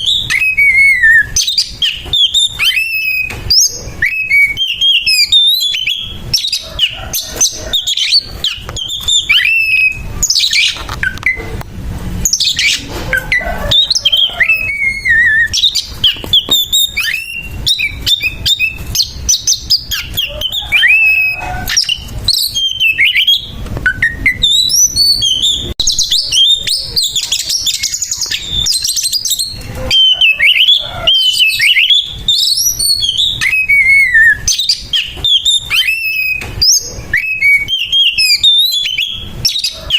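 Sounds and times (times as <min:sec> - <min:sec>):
magpie-robin singing: 0:00.0 - 0:11.6, 0:12.2 - 0:39.9.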